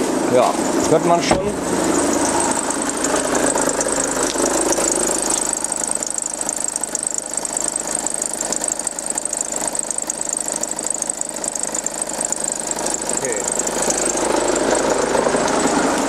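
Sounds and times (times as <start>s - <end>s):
diesel engine idling: 0.0s - 16.0s
high-pitched belt noise: 0.0s - 16.0s.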